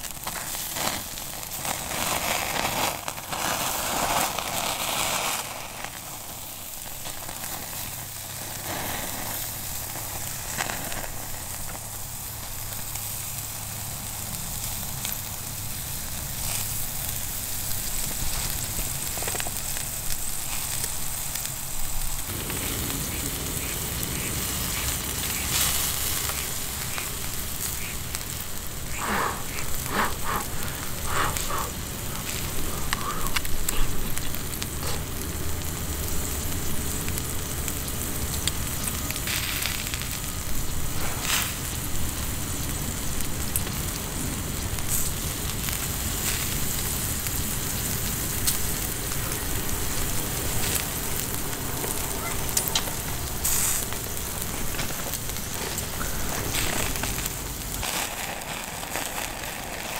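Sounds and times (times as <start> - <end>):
campfire crackling and hissing: 0.0 - 59.9
sharp fire pops: 0.0 - 59.9.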